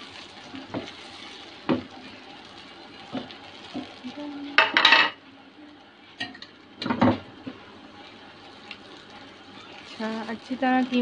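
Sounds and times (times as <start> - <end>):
meat frying sizzle: 0.0 - 11.0.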